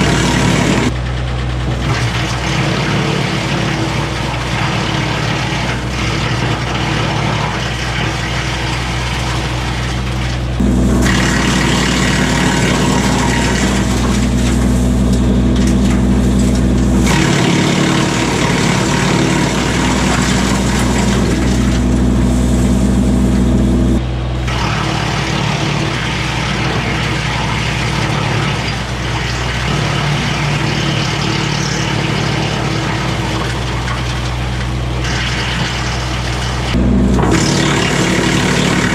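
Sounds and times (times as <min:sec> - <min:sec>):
tractor engine running wood chipper: 0:00.0 - 0:38.9.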